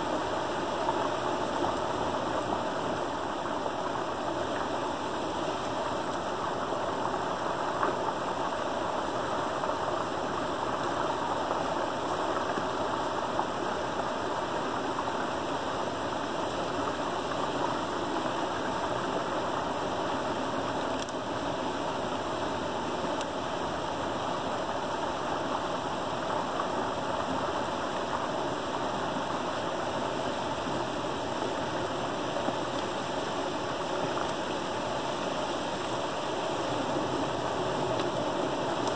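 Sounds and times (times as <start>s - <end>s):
creek water rushing: 0.0s - 38.9s
small waterfall into pool: 0.0s - 38.9s.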